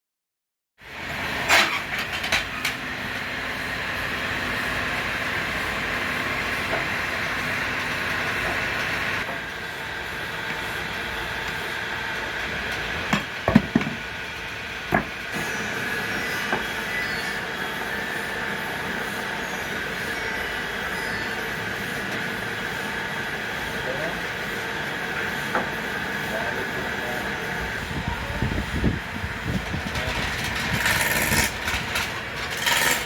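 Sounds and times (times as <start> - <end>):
wood-turning lathe running: 2.7 - 33.0.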